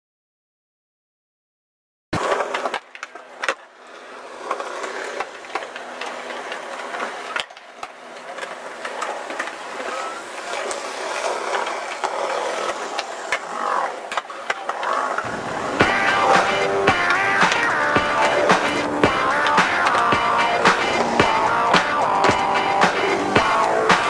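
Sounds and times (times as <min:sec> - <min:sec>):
skateboard wheels on concrete: 0:02.1 - 0:24.0
skateboard clacks: 0:02.2 - 0:24.0.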